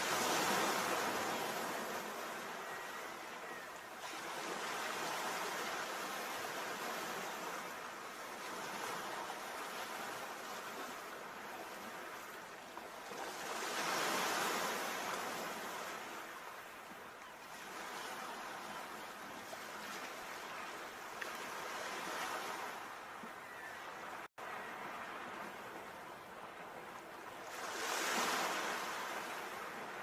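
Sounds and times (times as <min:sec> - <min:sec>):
sea waves breaking: 0:00.0 - 0:16.8, 0:17.5 - 0:30.0.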